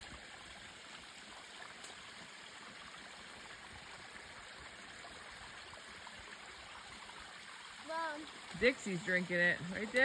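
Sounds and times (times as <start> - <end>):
waterfall splashing into stream: 0.0 - 10.0.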